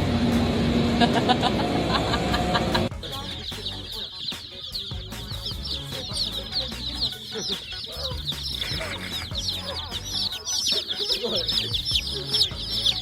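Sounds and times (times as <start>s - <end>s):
chicks peeping: 2.0s - 13.0s.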